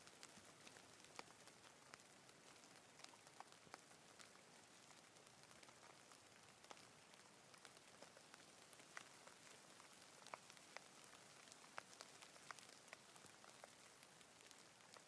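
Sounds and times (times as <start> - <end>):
rain hiss: 0.0 - 15.0
raindrops ticking: 0.0 - 15.0.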